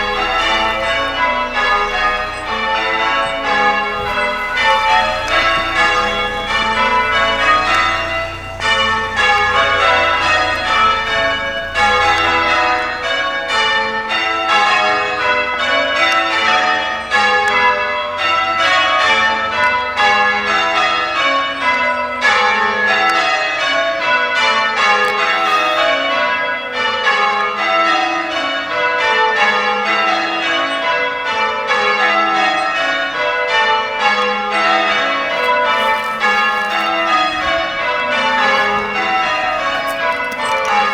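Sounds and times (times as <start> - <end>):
church bells change ringing: 0.0 - 40.9.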